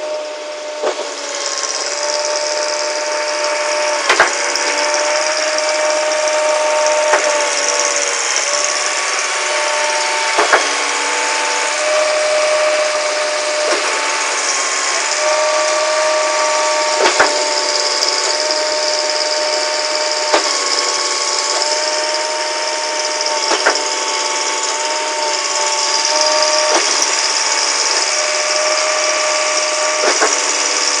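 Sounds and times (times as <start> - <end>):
concrete pump running: 0.0 - 31.0
stepping pump whine: 0.0 - 31.0.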